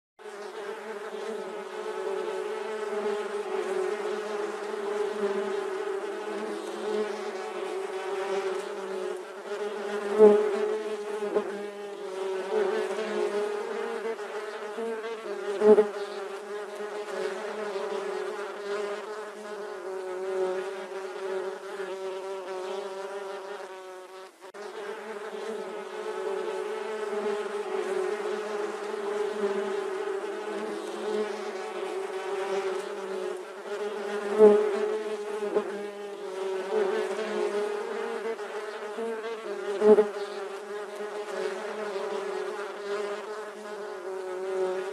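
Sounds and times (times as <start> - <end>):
bees buzzing: 0.3 - 44.9.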